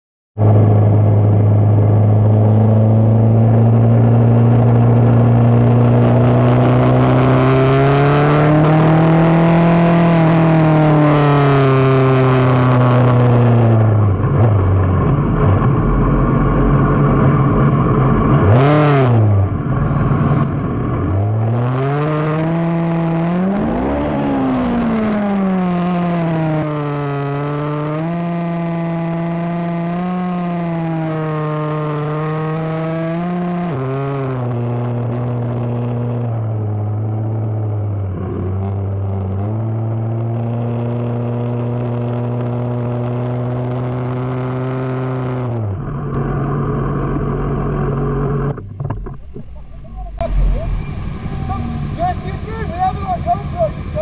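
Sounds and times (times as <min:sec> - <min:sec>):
motorcycle engine revving: 0:00.4 - 0:54.0.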